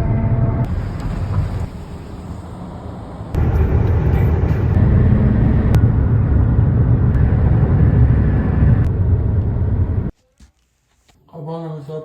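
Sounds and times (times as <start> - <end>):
car rumbling on road: 0.0 - 10.1
road and wind noise: 0.0 - 10.2.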